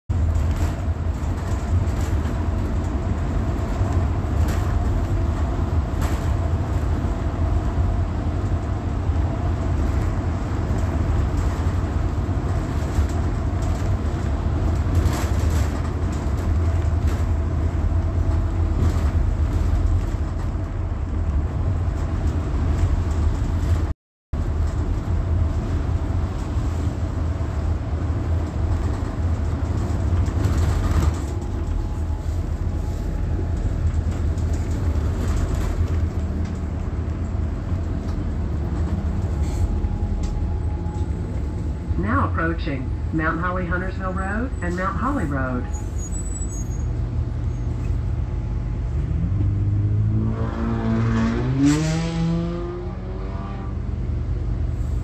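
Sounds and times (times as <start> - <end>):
rattles and clicks of bus fittings: 0.1 - 23.9, 24.5 - 41.7, 45.8 - 49.5
bus engine and road rumble: 0.1 - 55.0.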